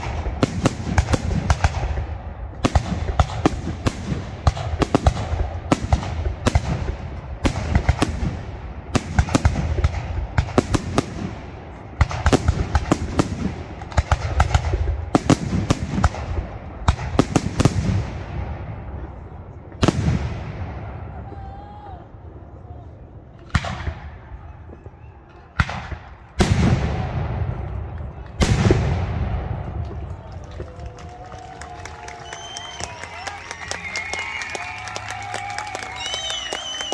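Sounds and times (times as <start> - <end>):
fireworks bursts and crackling: 0.0 - 21.5, 23.4 - 36.9
rumbling echo of fireworks: 0.0 - 36.9.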